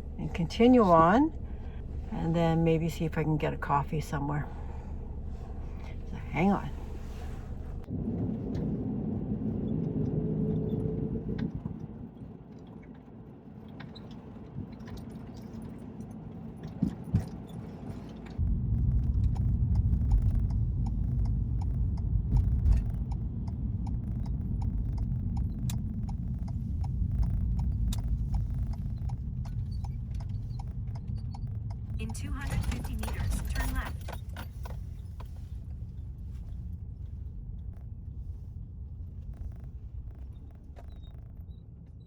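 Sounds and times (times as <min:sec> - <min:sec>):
low rumble: 0:00.0 - 0:42.0
van engine starting and running: 0:00.0 - 0:42.0.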